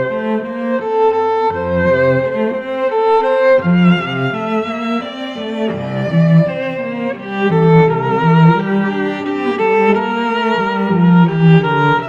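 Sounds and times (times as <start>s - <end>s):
bowed strings playing held notes: 0.0s - 12.0s.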